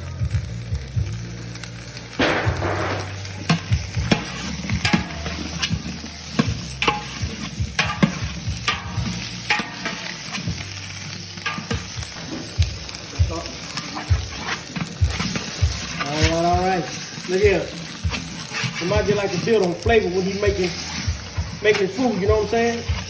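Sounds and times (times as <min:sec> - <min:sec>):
food sizzling in pan: 0:00.0 - 0:23.0
utensil scraping pan: 0:02.2 - 0:12.6, 0:13.5 - 0:22.2.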